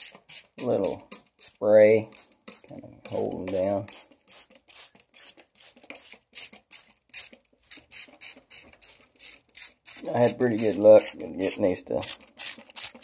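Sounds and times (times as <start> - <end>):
spray bottle spritzing: 0.0 - 13.0.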